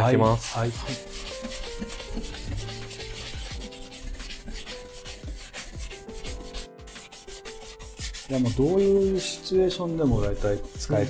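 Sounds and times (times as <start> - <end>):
rubbing strokes on leather bag: 0.0 - 11.0
soft background music: 0.0 - 11.0.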